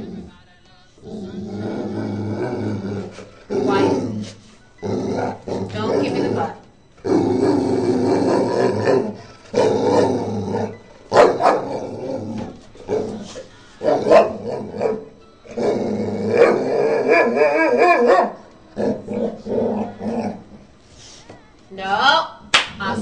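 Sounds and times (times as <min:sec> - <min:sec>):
dog grumbling: 0:00.0 - 0:00.3, 0:01.0 - 0:20.8.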